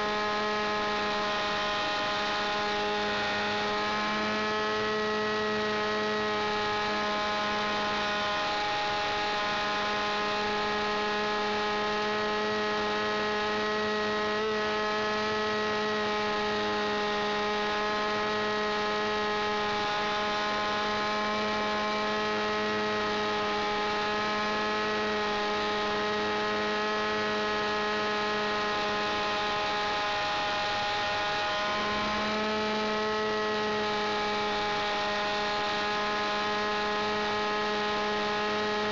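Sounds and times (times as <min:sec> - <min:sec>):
model aircraft engine drone: 0:00.0 - 0:38.9.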